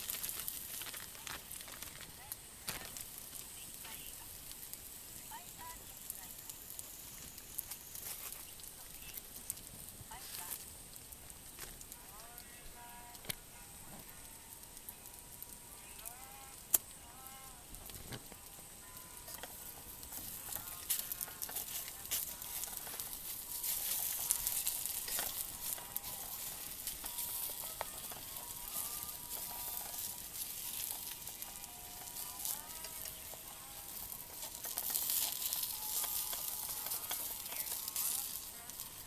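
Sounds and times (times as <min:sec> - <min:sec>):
wood fire crackling and hissing: 0:00.0 - 0:39.0.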